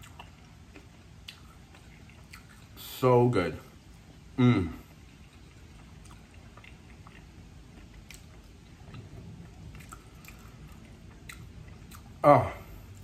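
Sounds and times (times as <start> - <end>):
faint chewing: 0.0 - 3.0, 3.7 - 13.0.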